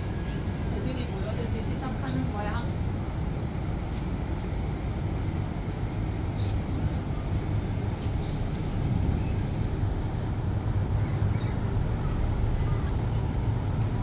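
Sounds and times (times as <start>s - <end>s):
low city background rumble: 0.0s - 14.0s.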